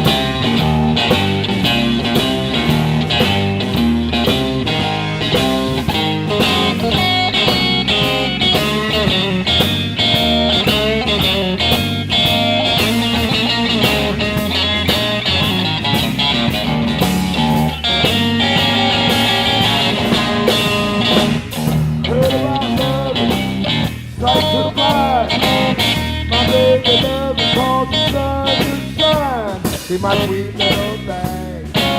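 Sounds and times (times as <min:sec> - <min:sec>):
bass guitar: 0:00.0 - 0:31.9
electric guitar bending notes: 0:00.0 - 0:31.9
steady drum beat: 0:00.0 - 0:31.9.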